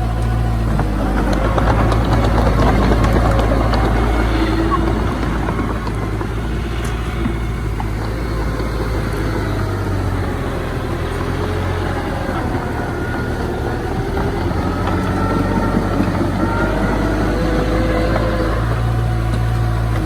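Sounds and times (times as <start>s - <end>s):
heavy diesel machinery running: 0.0s - 20.0s
thin wavering squeals: 0.0s - 20.0s.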